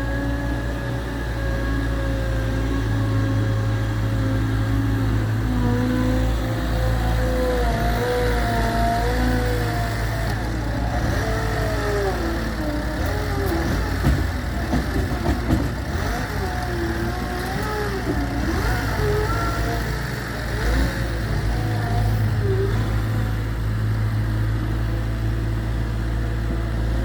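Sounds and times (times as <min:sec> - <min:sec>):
diesel engine rumbling and whining: 0:00.0 - 0:27.0.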